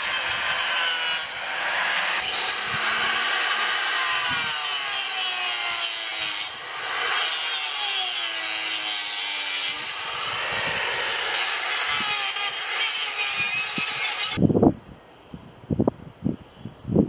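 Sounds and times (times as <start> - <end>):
power carving tool cutting wood: 0.0 - 14.4.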